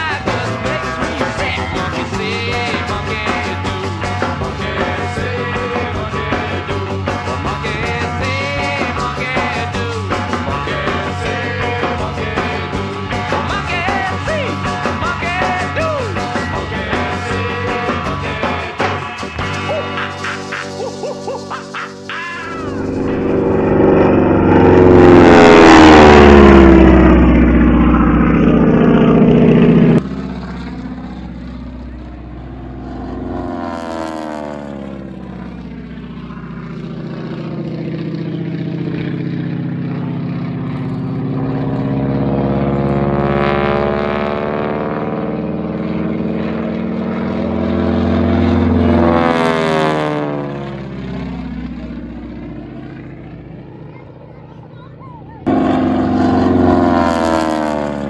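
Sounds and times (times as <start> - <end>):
aerobatic planes passing overhead: 0.0 - 58.0
propeller airplane engine drone: 0.0 - 58.0.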